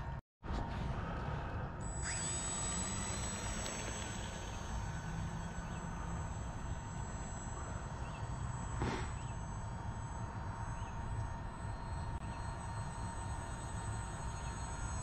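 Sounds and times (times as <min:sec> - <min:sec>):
electric motor high-pitched whine: 0:01.8 - 0:15.0.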